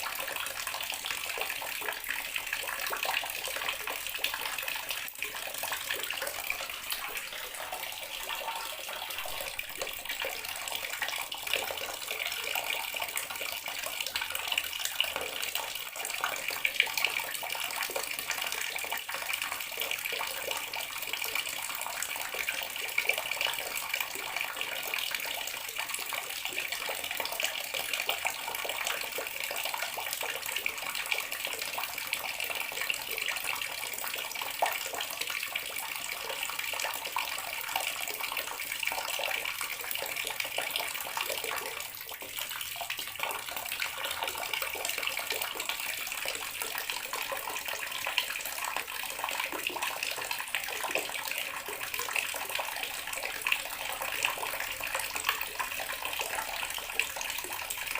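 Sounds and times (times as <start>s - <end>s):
tap water running into basin: 0.0s - 57.9s.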